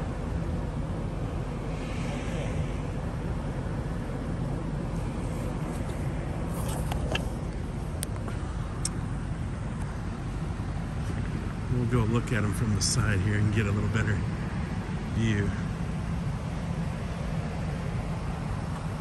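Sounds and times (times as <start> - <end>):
vehicle engines idling: 0.0 - 19.0.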